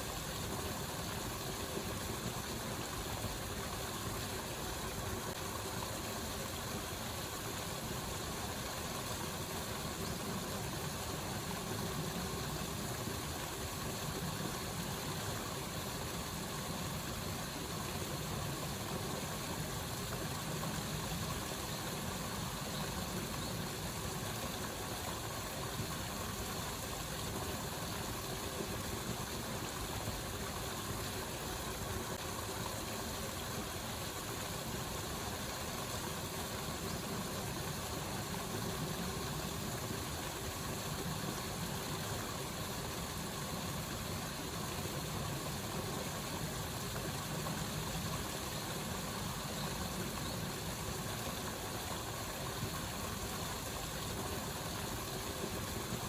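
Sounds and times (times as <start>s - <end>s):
rush of flowing water: 0.0s - 56.0s.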